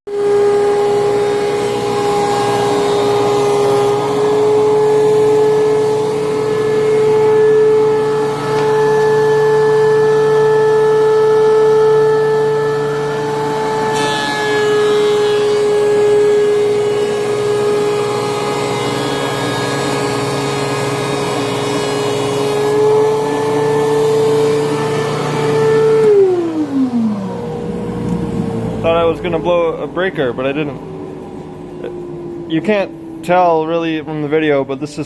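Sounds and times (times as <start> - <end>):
board cutting noise: 0.1 - 29.8
dust collector hum: 0.1 - 35.0
thickness planer whine: 0.1 - 35.0.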